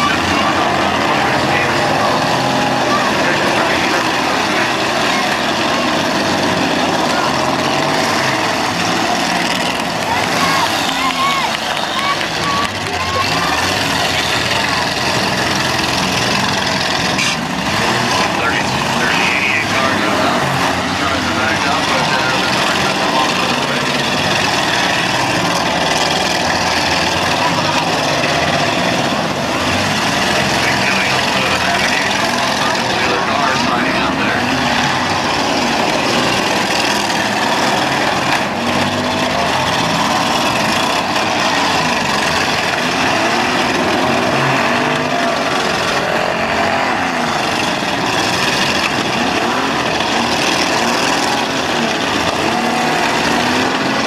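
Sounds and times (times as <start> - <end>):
car engines running loudly: 0.0 - 54.0.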